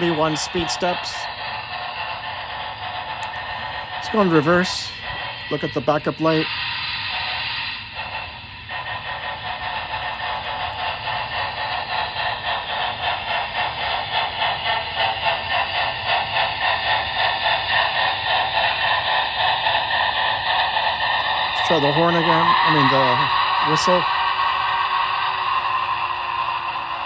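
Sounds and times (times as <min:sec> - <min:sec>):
model steam locomotive chuffs: 0:00.0 - 0:27.0.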